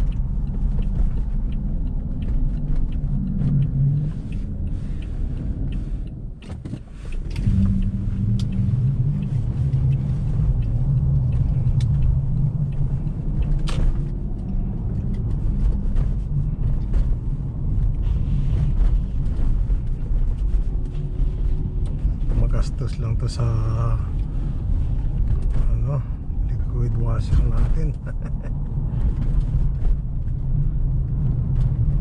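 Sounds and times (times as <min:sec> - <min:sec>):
engine and tyres rumbling: 0:00.0 - 0:32.0.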